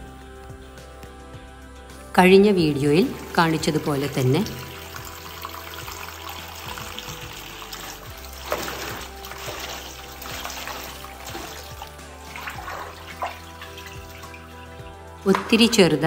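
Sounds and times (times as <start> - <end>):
background music: 0.0 - 16.0
water sloshing and splashing: 2.9 - 16.0.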